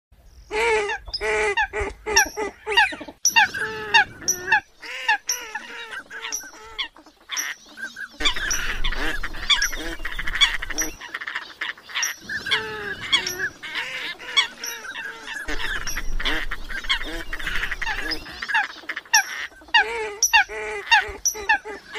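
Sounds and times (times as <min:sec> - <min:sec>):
coots calling: 0:00.5 - 0:21.9.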